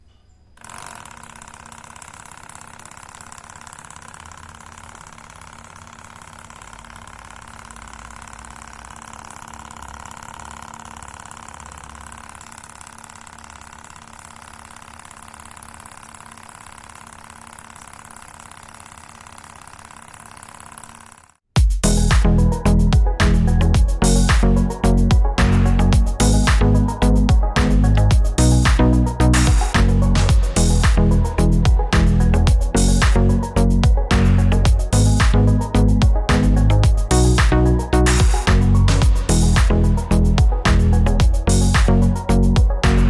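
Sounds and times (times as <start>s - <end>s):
small model engine humming: 0.6s - 43.0s.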